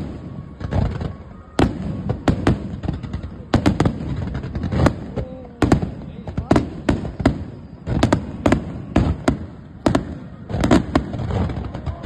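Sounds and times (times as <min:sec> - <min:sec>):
fireworks bursting with bangs: 0:00.0 - 0:12.0.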